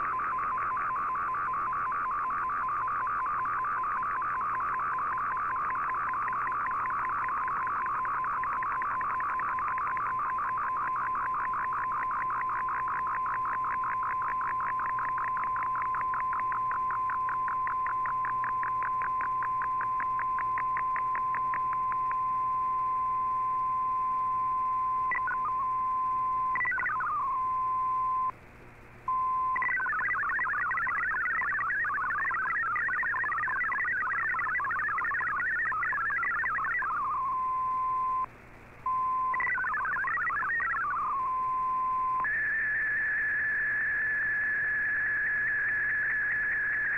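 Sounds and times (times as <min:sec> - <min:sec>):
rapidly warbling data tones: 0:00.0 - 0:22.5, 0:25.0 - 0:27.4, 0:29.4 - 0:38.3, 0:38.9 - 0:46.9
steady tone with fast pulsing: 0:00.0 - 0:28.3, 0:29.5 - 0:46.9.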